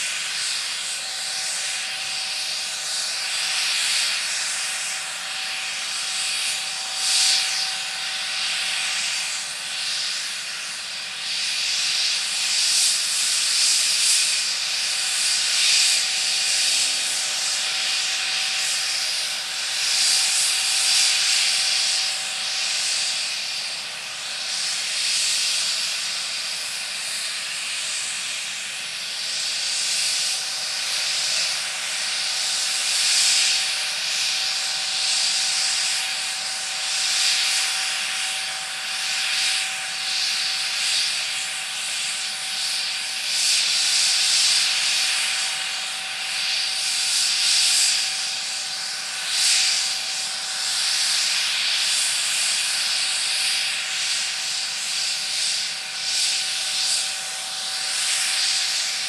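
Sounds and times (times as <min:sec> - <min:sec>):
helicopter turbine whine: 0:00.0 - 0:59.0.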